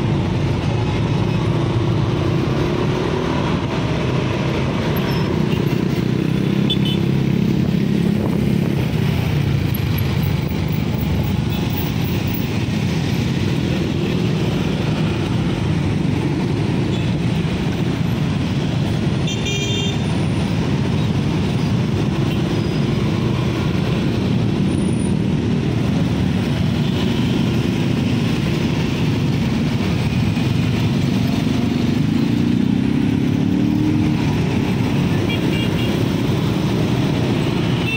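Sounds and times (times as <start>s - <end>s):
dense traffic engine noise: 0.0s - 37.9s.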